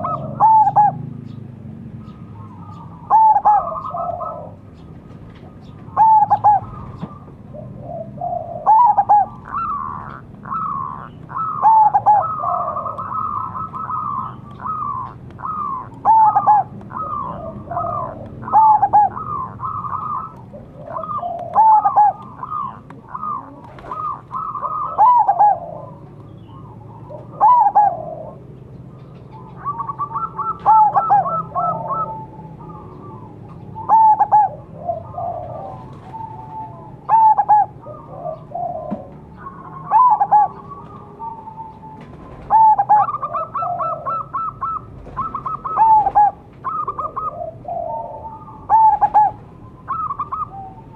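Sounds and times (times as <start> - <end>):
doves cooing: 0.0 - 50.9.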